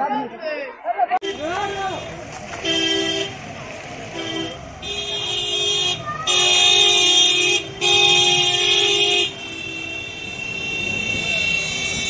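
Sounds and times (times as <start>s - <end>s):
car horns honking: 1.2s - 3.4s, 4.1s - 12.0s.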